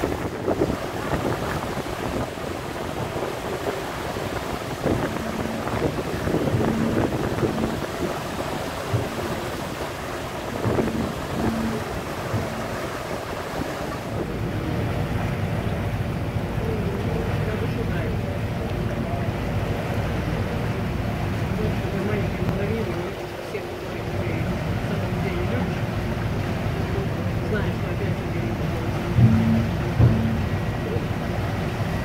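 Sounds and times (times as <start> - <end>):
ship engine noise: 0.0 - 32.0
water rushing: 0.0 - 32.0
wind buffeting microphone: 0.0 - 32.0.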